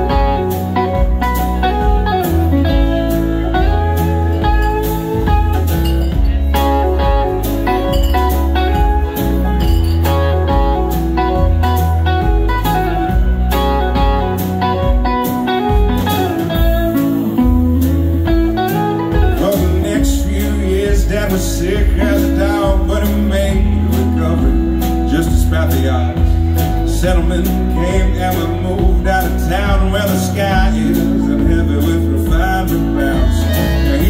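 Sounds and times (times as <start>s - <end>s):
bass guitar: 0.0s - 34.0s
drums: 0.0s - 34.0s
guitars playing: 0.0s - 34.0s.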